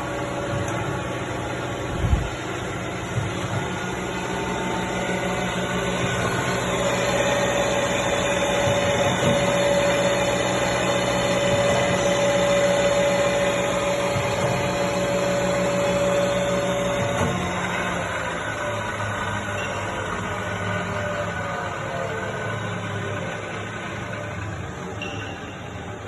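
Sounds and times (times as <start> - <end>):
milling machine motor hum: 0.0 - 25.0
machine whine: 0.0 - 26.0.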